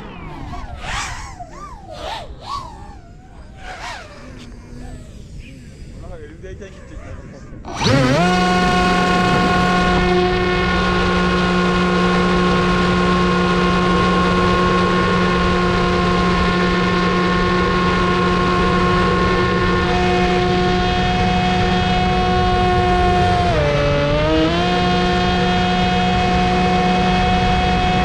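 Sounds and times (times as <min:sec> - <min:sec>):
electric motor and propeller whine: 0:00.0 - 0:28.0.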